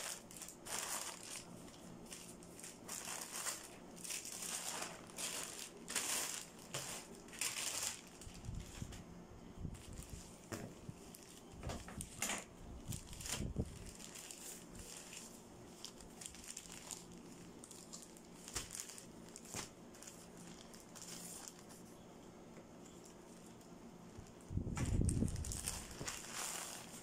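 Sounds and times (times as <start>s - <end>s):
plastic bags crinkling: 0.0s - 9.0s, 9.7s - 10.4s, 11.0s - 21.8s, 24.2s - 27.0s.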